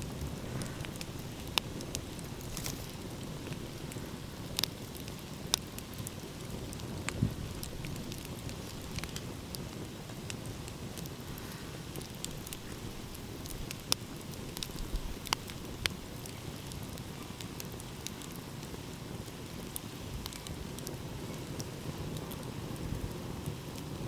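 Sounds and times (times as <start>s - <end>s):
wood fire crackling: 0.0s - 24.0s
sharp pops of fire: 0.1s - 23.9s.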